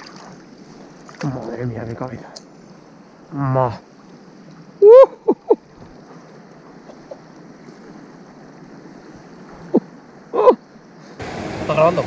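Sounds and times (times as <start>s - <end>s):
river water: 0.0s - 12.0s.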